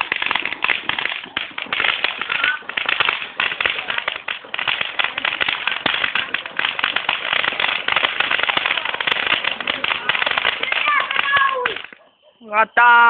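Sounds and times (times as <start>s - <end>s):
ground fountain firework crackling: 0.0s - 13.0s.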